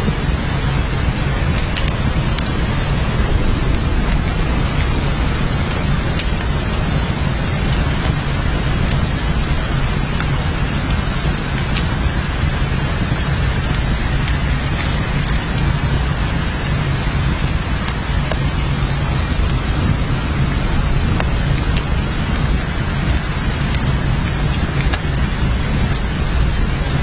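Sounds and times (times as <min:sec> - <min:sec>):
heavy rain hiss: 0:00.0 - 0:27.0
low rumble: 0:00.0 - 0:27.0
raindrop ticks: 0:00.0 - 0:27.0.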